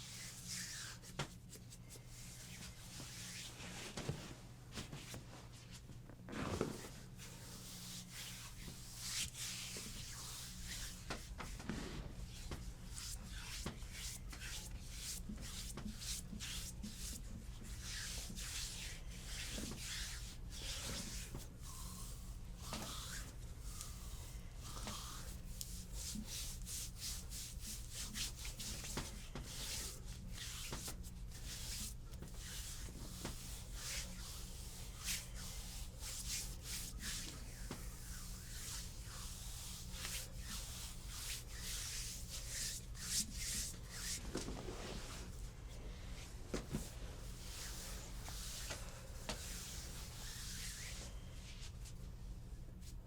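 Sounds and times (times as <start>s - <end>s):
hands rubbing over skin: 0.0s - 52.0s.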